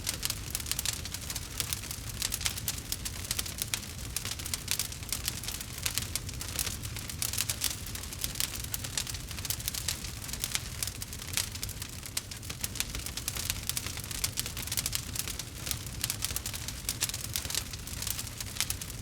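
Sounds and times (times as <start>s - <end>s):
fireplace crackling: 0.0s - 19.0s.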